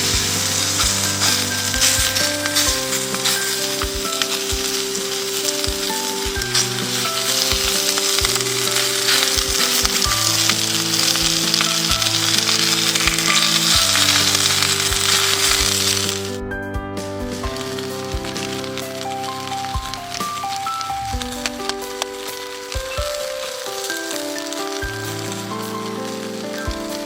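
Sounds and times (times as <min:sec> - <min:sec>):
food sizzling in a frying pan: 0:00.0 - 0:16.4, 0:17.2 - 0:27.0
background music with held notes: 0:00.0 - 0:27.0.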